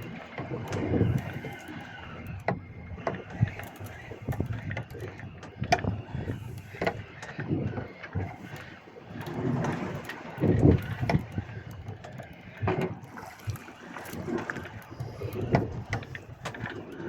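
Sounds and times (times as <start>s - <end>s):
water sloshing against hull: 0.0s - 17.0s
wind on microphone: 0.0s - 17.0s.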